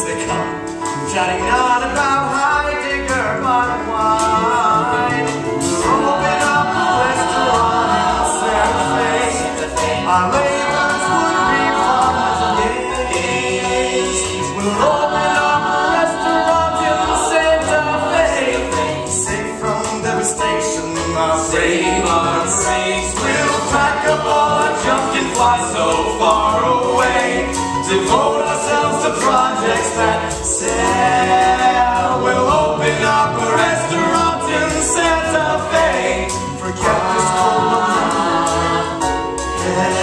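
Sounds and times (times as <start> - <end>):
singers with band accompaniment: 0.0 - 40.0.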